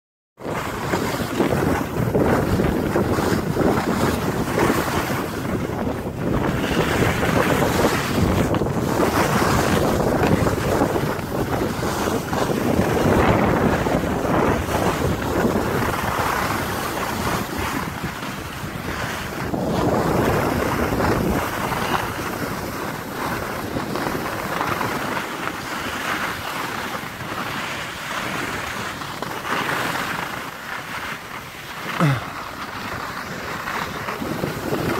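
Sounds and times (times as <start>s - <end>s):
ski edges scraping snow: 0.4s - 34.9s
wind buffeting microphone: 0.4s - 34.9s.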